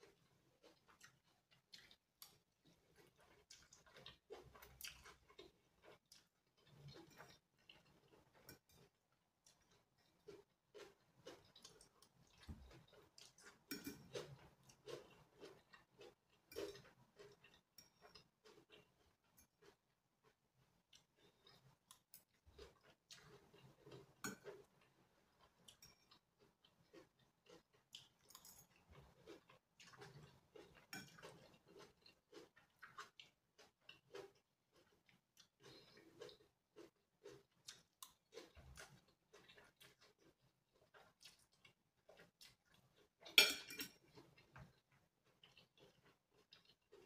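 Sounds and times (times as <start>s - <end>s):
wet chewing of noodles: 0.0s - 47.0s.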